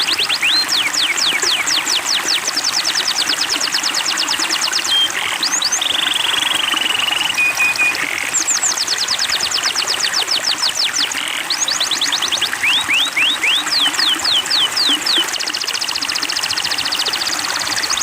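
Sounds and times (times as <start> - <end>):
flowing water rushing: 0.0 - 18.0
songbird singing: 0.0 - 18.0.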